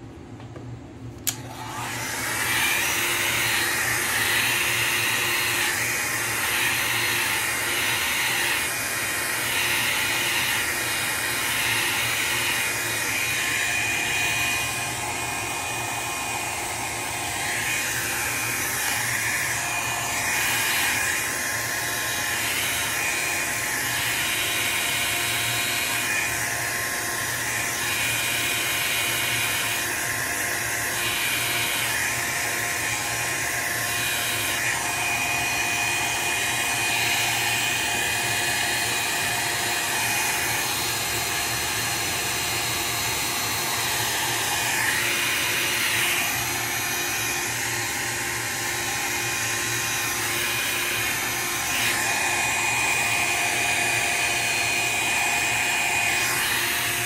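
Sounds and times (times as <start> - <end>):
hot-air blower running: 0.0 - 57.0.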